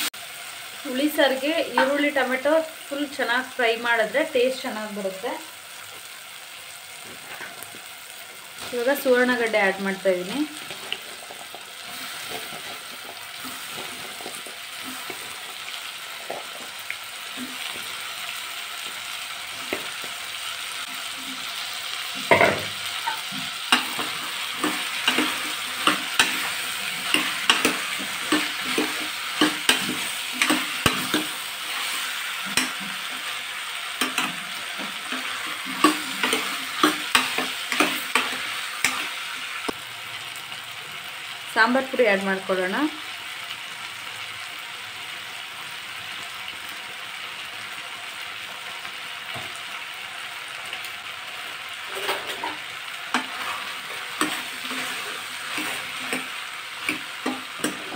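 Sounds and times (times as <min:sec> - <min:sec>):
vegetables sizzling in oil: 0:00.0 - 0:57.9.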